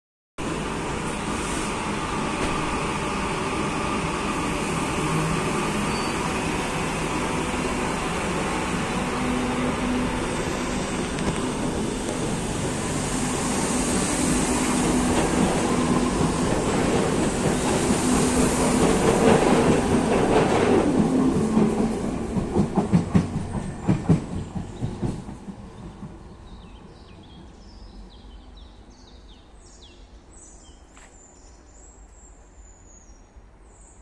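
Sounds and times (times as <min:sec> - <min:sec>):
electric train rumbling past: 0:00.4 - 0:30.3.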